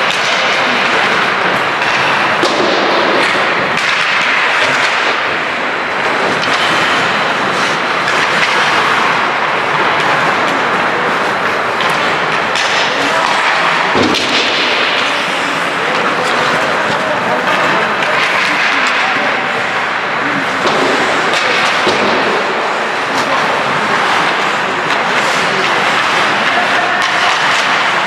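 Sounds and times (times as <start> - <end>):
hockey sticks and puck knocking: 0.0 - 28.0
skate blades on ice: 0.0 - 28.0.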